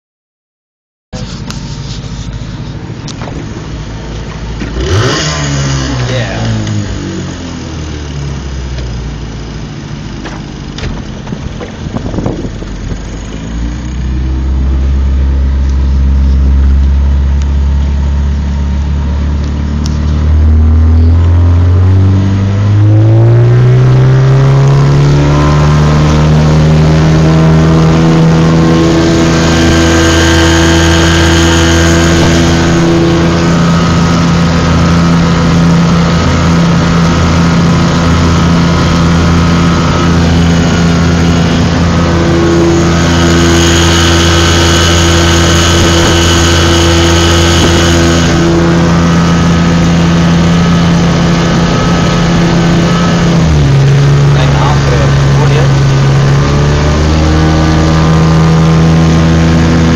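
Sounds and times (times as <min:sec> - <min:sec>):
motorboat engine at high revs: 0:01.3 - 0:59.9.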